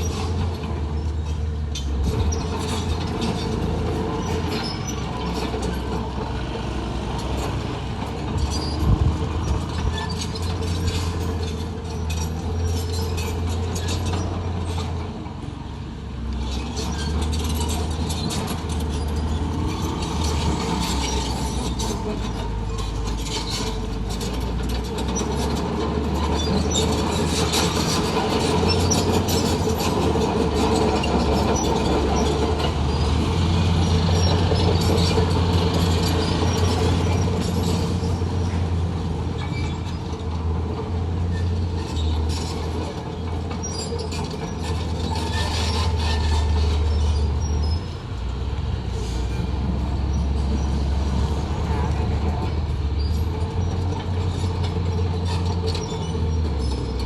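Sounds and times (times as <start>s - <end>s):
bulldozer diesel engine: 0.0s - 57.0s
steel tracks clanking and squeaking: 0.0s - 57.0s.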